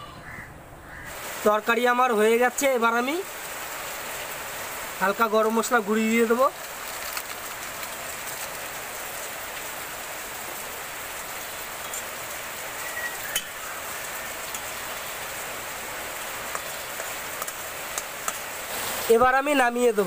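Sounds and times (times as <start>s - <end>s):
curry sizzling in a pan: 0.9s - 20.0s.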